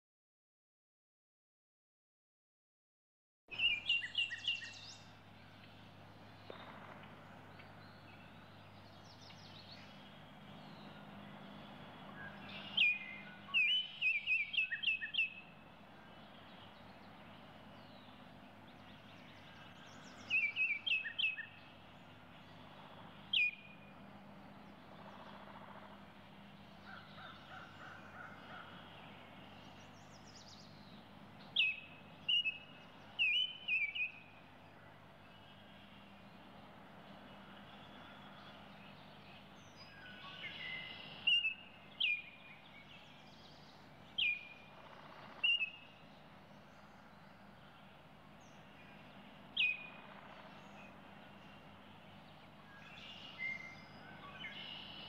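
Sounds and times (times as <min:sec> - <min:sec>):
small bird chirping: 0:03.5 - 0:36.4, 0:37.3 - 0:55.0.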